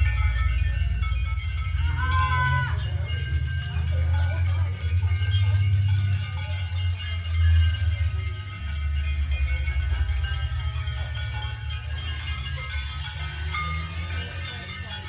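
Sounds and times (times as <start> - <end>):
low electronic drone: 0.0 - 15.0
ringing high tones: 0.0 - 15.0.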